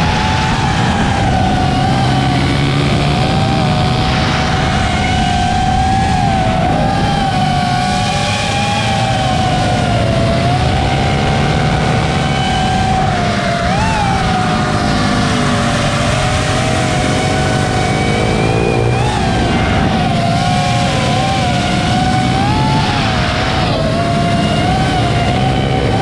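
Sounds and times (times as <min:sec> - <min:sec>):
faint rising engine notes: 0:00.0 - 0:26.0
quadcopter motors whining: 0:00.0 - 0:26.0.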